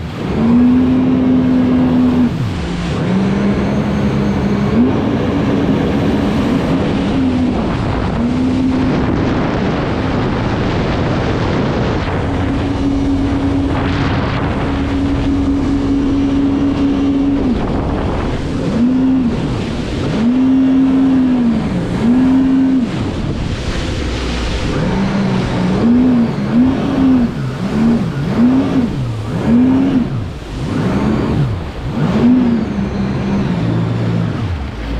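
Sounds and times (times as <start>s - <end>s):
jet ski engine revving: 0.0s - 34.9s
rushing water noise: 0.0s - 34.9s.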